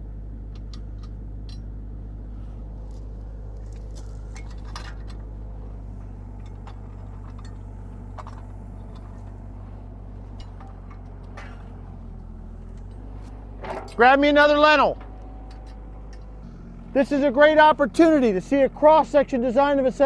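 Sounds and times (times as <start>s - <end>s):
machine engine idling: 0.0s - 20.0s.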